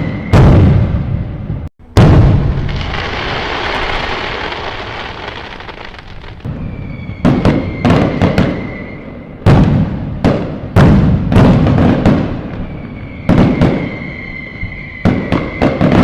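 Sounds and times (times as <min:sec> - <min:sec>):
firework whistle: 0:00.0 - 0:01.2, 0:02.0 - 0:10.0, 0:11.6 - 0:16.0
firework bangs: 0:00.0 - 0:16.0
fireworks crackling rumble: 0:00.0 - 0:16.0.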